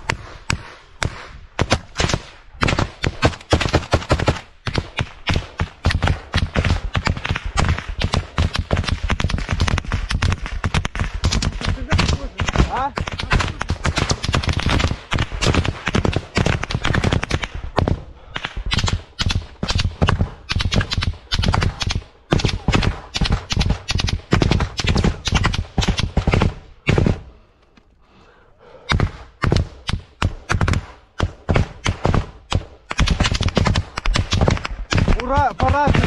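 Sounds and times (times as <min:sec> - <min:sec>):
rifle fire: 0:00.0 - 0:27.3, 0:28.9 - 0:36.0.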